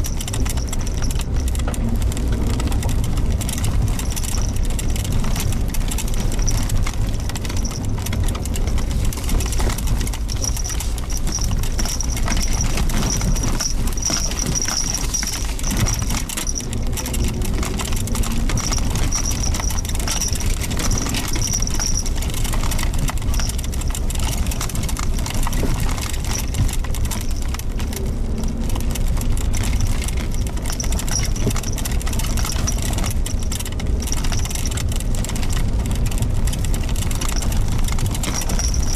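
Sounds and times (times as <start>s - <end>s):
car engine and tyre rumble: 0.0s - 38.9s
knocks and clatter from rough road: 0.0s - 38.9s.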